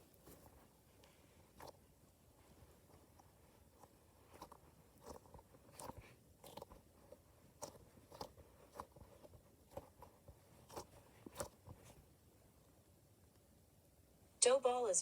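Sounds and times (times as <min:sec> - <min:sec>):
stress ball squishing: 0:00.0 - 0:14.3.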